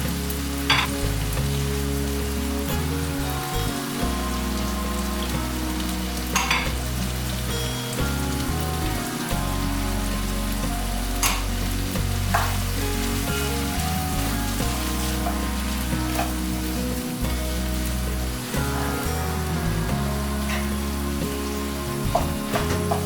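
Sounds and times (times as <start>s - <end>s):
food sizzling in a frying pan: 0.0s - 23.0s.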